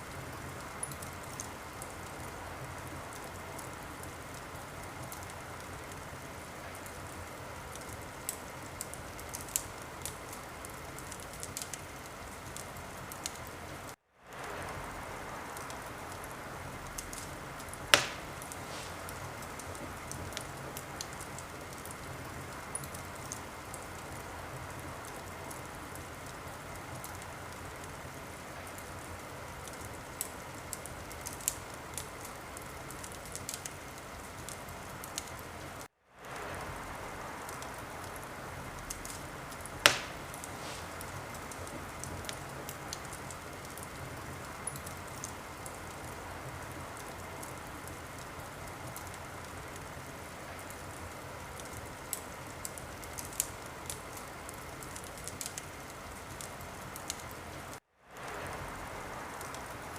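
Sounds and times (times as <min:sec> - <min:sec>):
loud sharp crack of fire: 0:00.0 - 0:59.9
wood fire crackling: 0:00.0 - 0:59.9.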